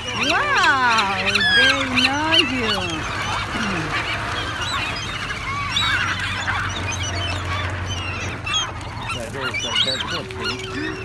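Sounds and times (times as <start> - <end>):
seagulls squawking: 0.0 - 11.0.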